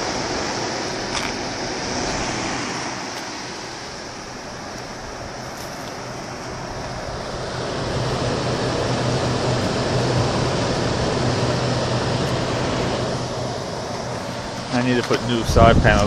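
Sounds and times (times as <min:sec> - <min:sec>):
air conditioner fan rushing air: 0:00.0 - 0:16.0
low hum: 0:00.0 - 0:16.0.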